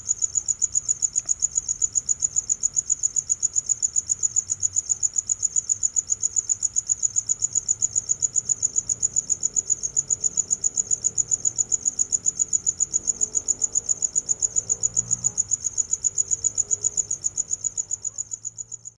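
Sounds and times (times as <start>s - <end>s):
cricket chirping: 0.0s - 18.9s.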